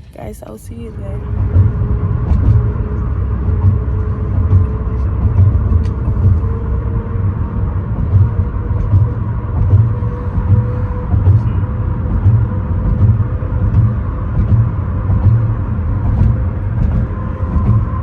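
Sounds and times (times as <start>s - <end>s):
faint steady hum: 0.0s - 18.0s
road and engine rumble: 0.0s - 18.0s.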